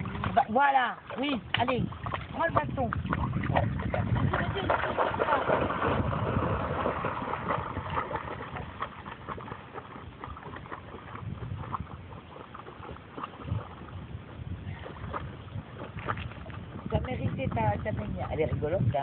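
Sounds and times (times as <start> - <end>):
dog paddling in water: 0.0 - 19.0
small waves lapping at bank: 0.0 - 19.0.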